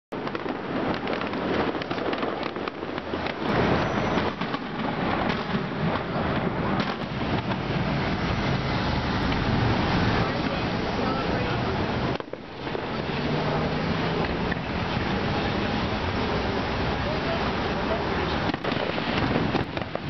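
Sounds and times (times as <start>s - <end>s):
city street noise: 0.1s - 20.0s
fireworks crackling and popping: 0.1s - 20.0s.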